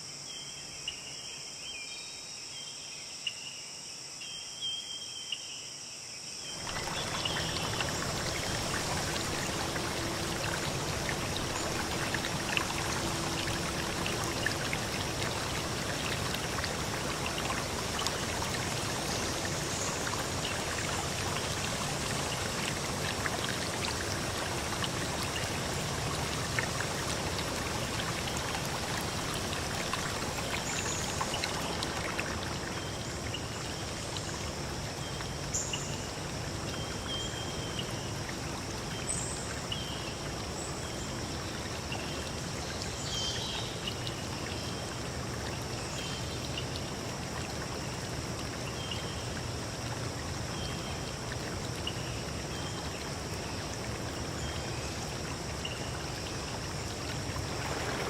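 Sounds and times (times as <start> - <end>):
stream running: 6.4 - 58.0.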